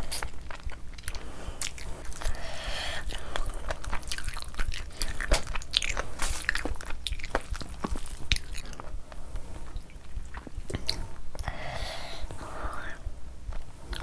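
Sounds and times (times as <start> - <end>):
wet chewing: 0.0 - 11.6.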